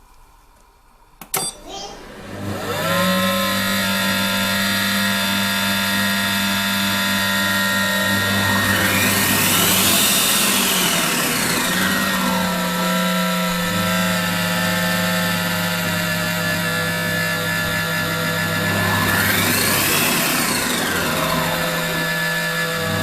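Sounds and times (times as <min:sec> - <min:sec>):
food processor motor whining: 0:01.6 - 0:23.0.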